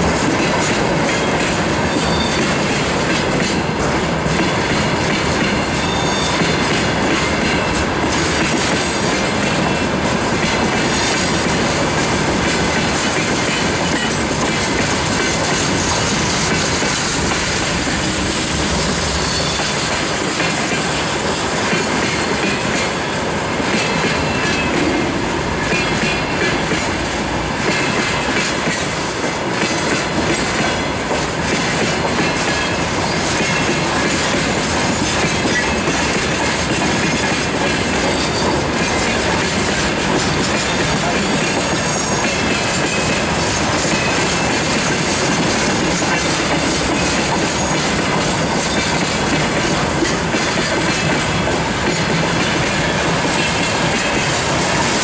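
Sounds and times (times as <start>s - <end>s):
freight train wheels rolling on rails: 0.0s - 55.0s.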